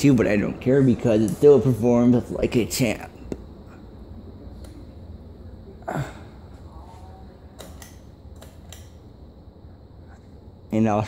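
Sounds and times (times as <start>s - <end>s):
ceiling fan humming: 0.0s - 11.0s.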